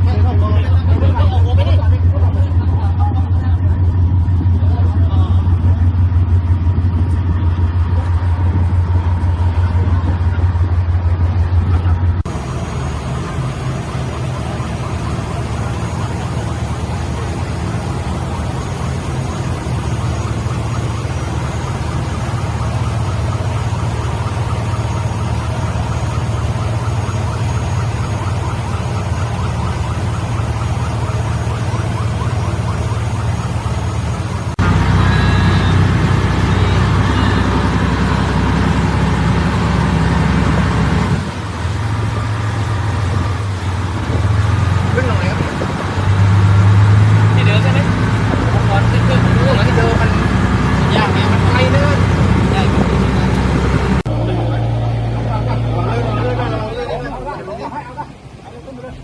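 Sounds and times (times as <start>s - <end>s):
motor boat engine running: 0.0s - 59.0s.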